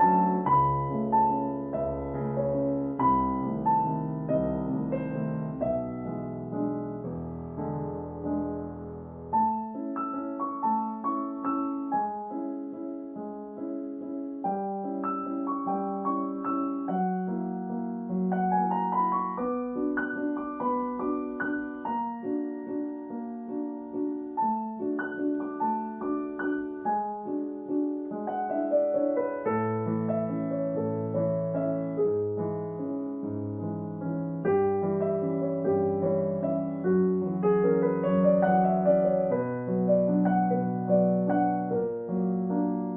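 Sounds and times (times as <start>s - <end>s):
piano music with arpeggios: 0.0s - 42.9s.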